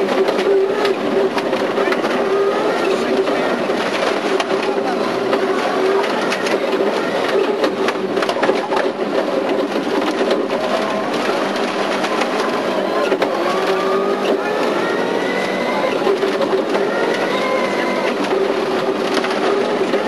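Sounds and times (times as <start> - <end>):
rally car engine running hard: 0.0 - 20.0.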